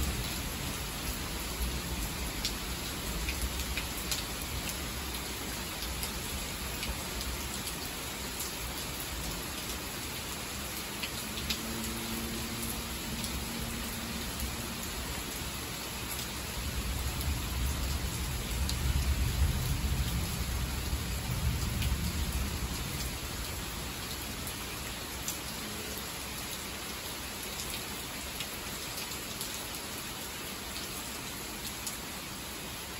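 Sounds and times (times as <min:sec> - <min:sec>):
heavy rain pouring: 0:00.0 - 0:32.9.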